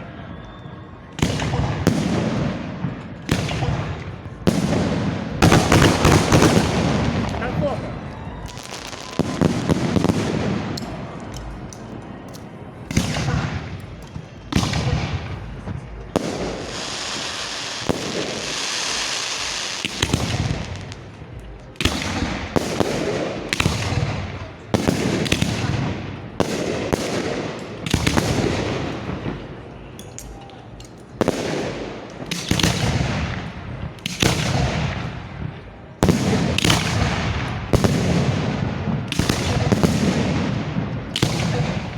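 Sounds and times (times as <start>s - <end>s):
fireworks firing and bursting: 0.0s - 11.9s, 12.8s - 41.9s.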